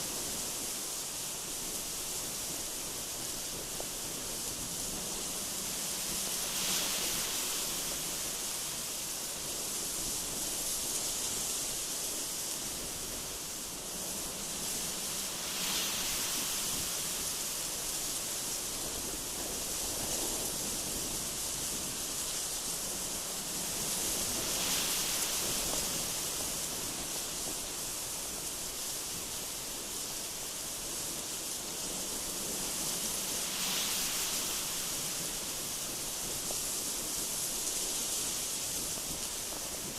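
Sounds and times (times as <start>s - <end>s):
gusty wind through trees: 0.0s - 39.9s.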